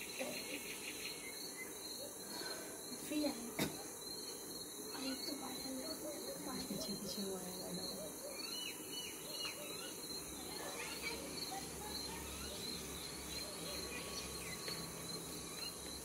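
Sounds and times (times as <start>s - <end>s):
high-pitched chorus of insects: 0.0s - 16.0s.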